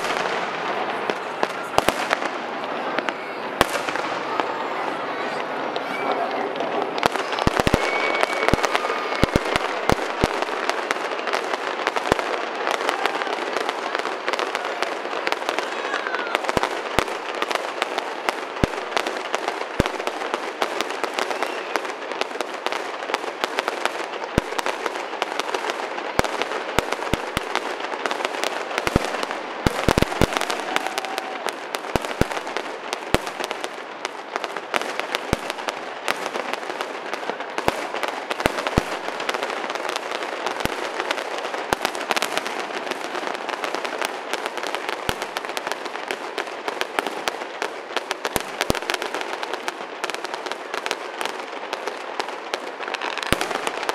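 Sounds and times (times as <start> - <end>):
fireworks whistling: 0.0 - 50.3, 52.6 - 53.9
fireworks bangs: 0.0 - 53.9
fireworks crackling: 0.0 - 53.9.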